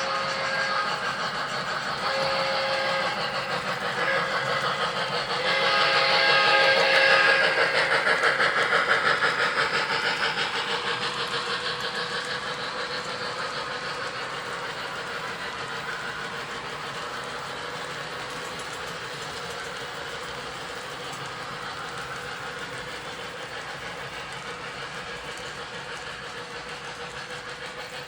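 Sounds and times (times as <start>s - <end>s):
model train clicking on track: 0.0s - 28.0s.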